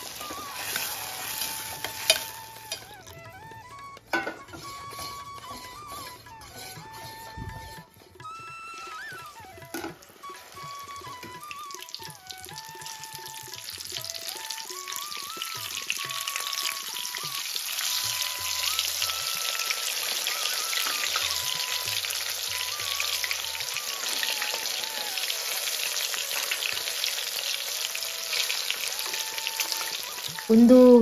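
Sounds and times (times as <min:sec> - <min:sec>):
hot oil sizzling and crackling: 0:00.0 - 0:07.7, 0:08.8 - 0:31.0
soft background melody: 0:00.0 - 0:31.0.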